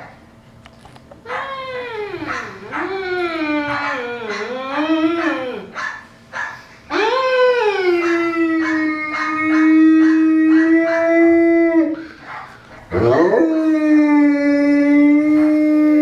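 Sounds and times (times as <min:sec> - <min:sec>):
dog howling: 0:01.2 - 0:06.0, 0:06.9 - 0:12.2, 0:12.9 - 0:16.0.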